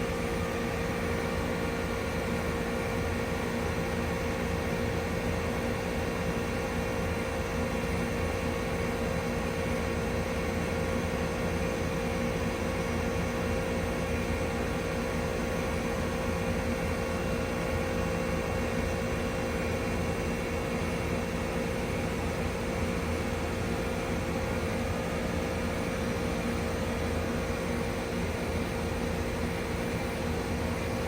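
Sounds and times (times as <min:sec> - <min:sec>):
heat pump humming: 0:00.0 - 0:31.0.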